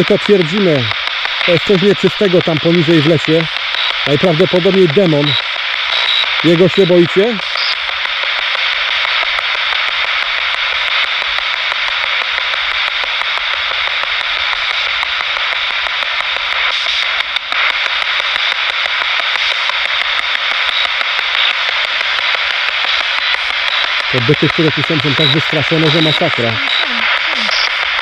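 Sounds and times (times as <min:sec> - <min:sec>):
faint clicks of radio sweep: 0:00.0 - 0:28.0
radio static hissing: 0:00.0 - 0:28.0.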